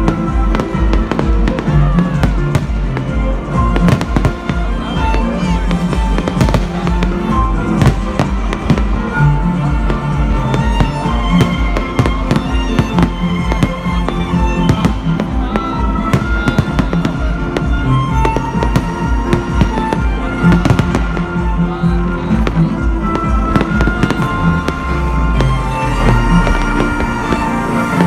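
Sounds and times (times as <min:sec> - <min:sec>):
amplified stage music: 0:00.0 - 0:28.0
fireworks and firecrackers banging: 0:00.0 - 0:28.0.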